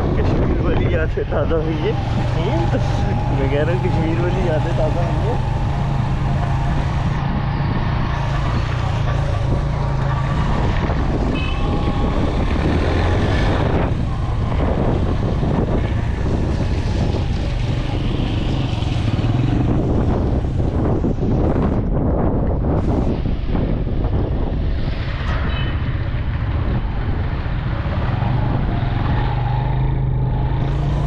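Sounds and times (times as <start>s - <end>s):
wind on microphone: 0.0s - 31.0s.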